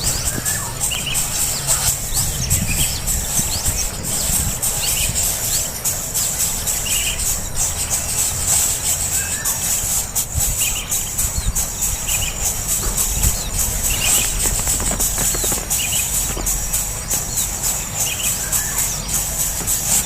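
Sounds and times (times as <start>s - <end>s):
birds chirping: 0.0s - 20.0s
high-pitched drone: 0.0s - 20.0s.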